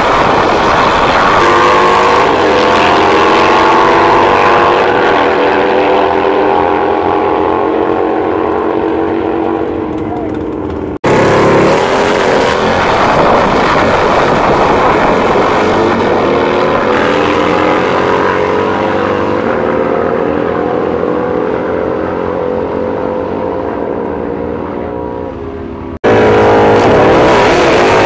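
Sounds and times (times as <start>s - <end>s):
motorcycles accelerating hard: 0.0s - 25.4s, 26.0s - 28.0s.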